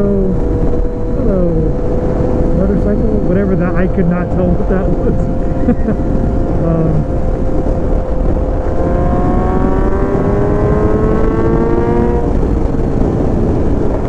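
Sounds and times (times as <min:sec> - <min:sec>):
motorcycle engine accelerating: 0:00.0 - 0:14.0
wind rumble on microphone: 0:00.0 - 0:14.0.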